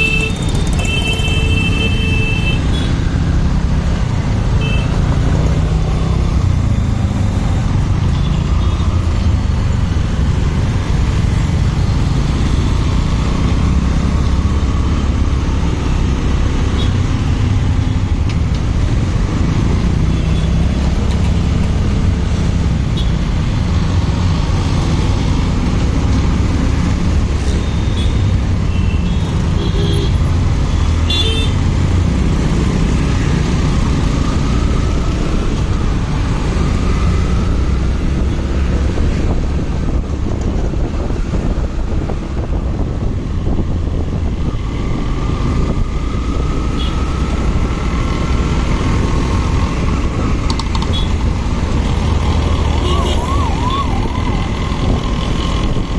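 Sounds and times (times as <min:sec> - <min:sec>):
motorcycle engine and road noise: 0:00.0 - 0:55.9.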